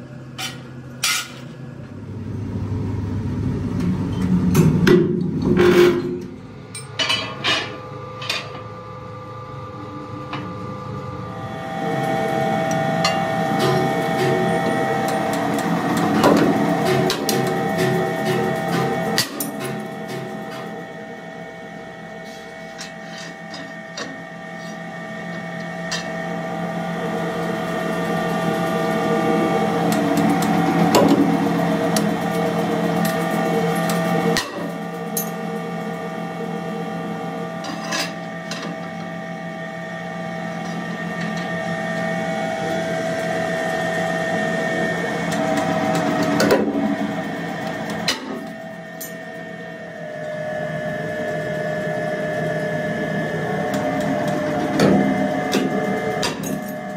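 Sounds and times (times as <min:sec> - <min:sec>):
punch press machine hum: 0:00.0 - 0:56.9.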